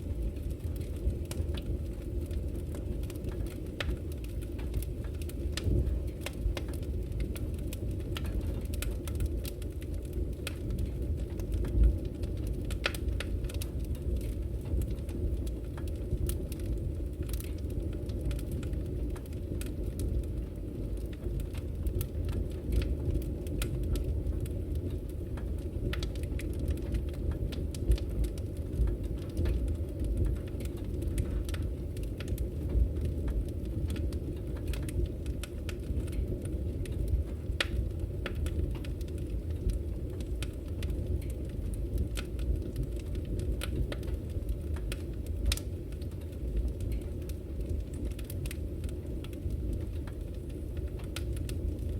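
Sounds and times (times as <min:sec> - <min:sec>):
firewood crackling and popping: 0:00.0 - 0:51.9
low rumble of flames: 0:00.0 - 0:51.9.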